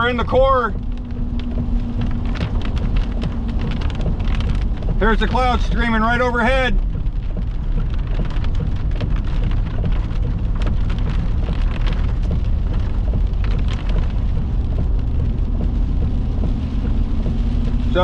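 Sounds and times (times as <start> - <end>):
heavy rain falling: 0.0 - 18.0
low rumble: 0.0 - 18.0.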